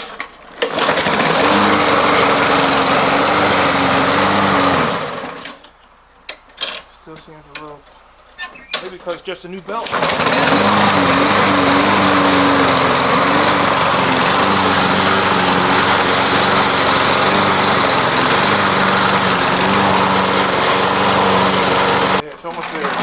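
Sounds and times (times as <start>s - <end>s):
lawn mower engine running: 0.0s - 5.7s, 9.8s - 23.0s.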